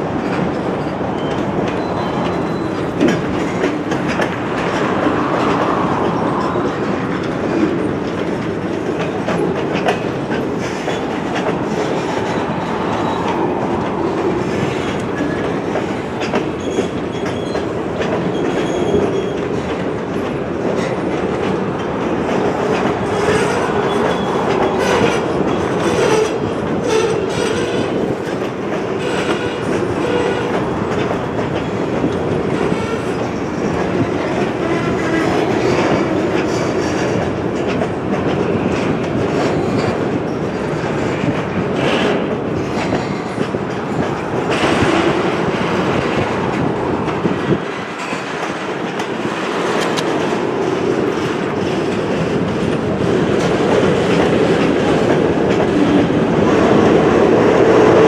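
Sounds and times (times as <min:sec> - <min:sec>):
freight cars rumbling on rails: 0:00.0 - 0:58.0
wheels clicking over rail joints: 0:00.0 - 0:58.0.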